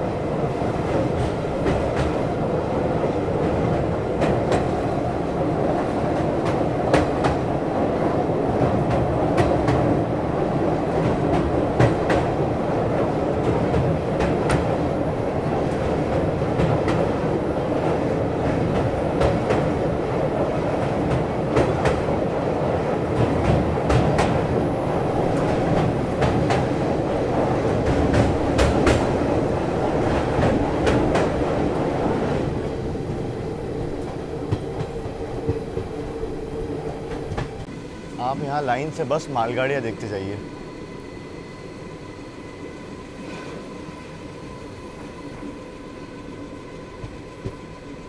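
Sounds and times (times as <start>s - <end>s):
train coaches rumbling over bridge: 0.0s - 48.0s.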